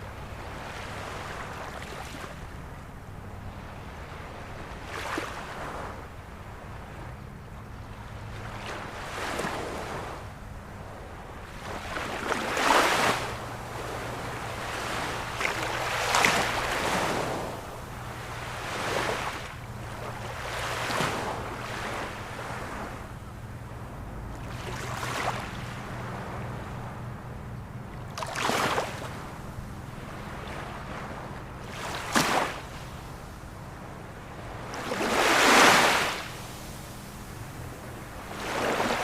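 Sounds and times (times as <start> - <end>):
ocean waves breaking: 0.0 - 7.2, 7.8 - 39.0.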